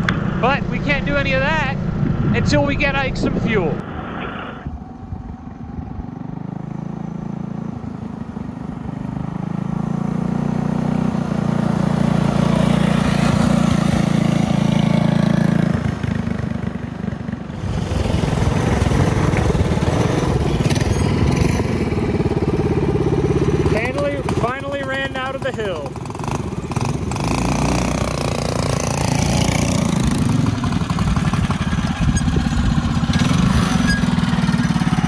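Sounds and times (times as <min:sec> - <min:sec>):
mini bike engines passing: 0:04.8 - 0:35.0.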